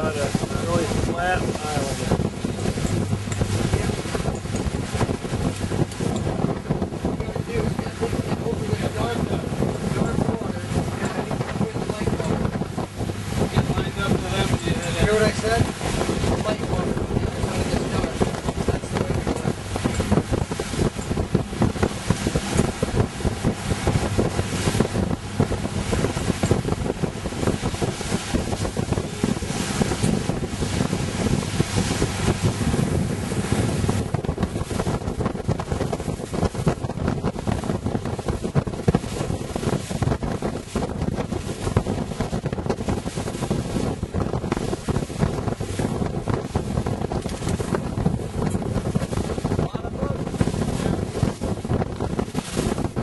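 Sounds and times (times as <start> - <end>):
boat wash on sea: 0.0 - 53.0
rush of water: 0.0 - 53.0
wind buffeting microphone: 0.0 - 53.0.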